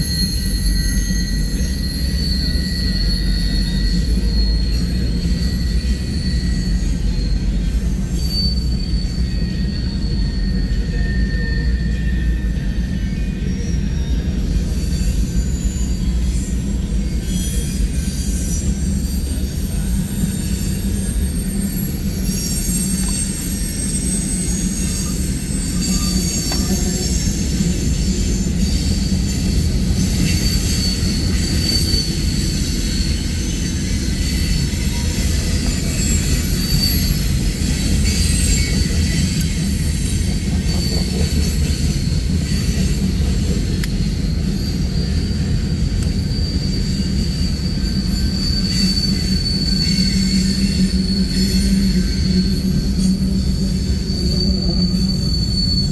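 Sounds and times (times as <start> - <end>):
high-pitched wheel flange squeal: 0.0 - 55.9
train wheels rumbling on rail: 0.0 - 55.9.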